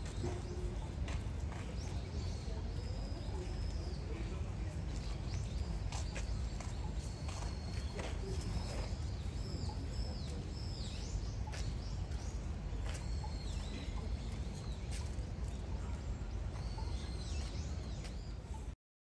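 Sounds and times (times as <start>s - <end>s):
birds chirping: 0.0s - 18.8s.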